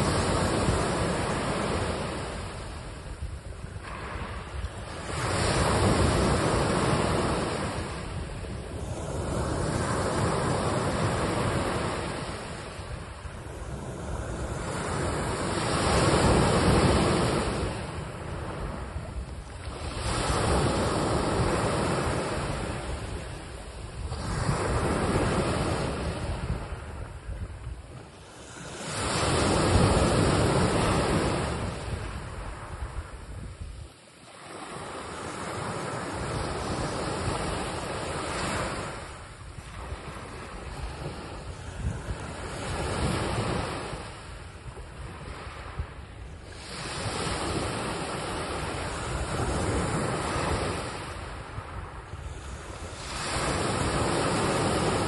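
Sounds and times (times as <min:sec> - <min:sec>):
small waves breaking on a beach: 0:00.0 - 0:55.0.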